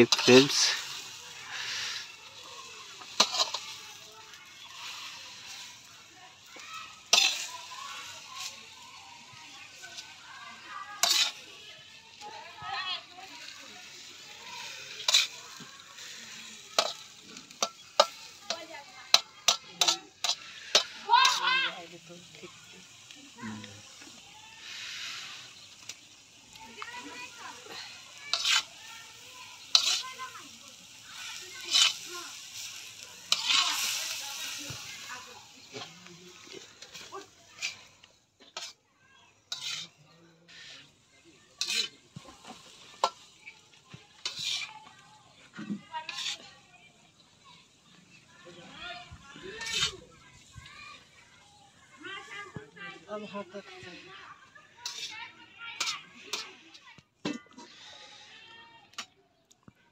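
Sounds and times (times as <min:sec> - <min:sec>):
metal spatula scraping a wok: 0:00.0 - 0:38.8, 0:39.4 - 0:48.2, 0:49.0 - 0:51.5, 0:53.2 - 0:59.2
greens sizzling: 0:00.0 - 0:59.9.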